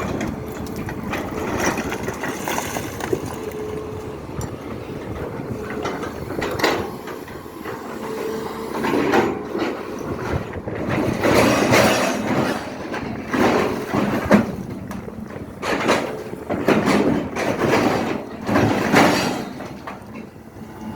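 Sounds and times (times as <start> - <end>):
excavator engine and hydraulics: 0.0 - 20.9.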